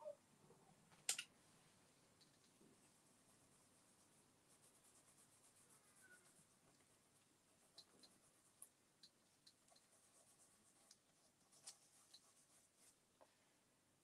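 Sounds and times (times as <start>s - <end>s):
soft rubbing: 1.5s - 13.4s.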